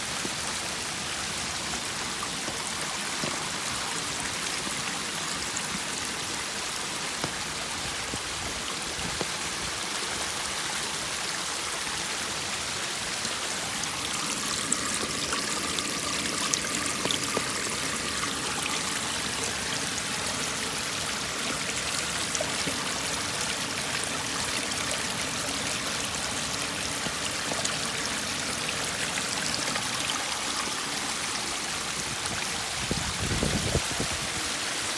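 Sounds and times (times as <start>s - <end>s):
water cascading down steps: 0.0s - 34.9s.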